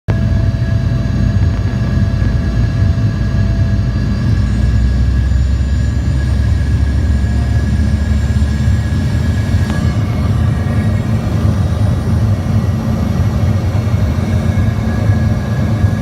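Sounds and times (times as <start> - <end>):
airplane engines and airflow rumble: 0.1 - 16.0
faint steady whine: 0.1 - 16.0.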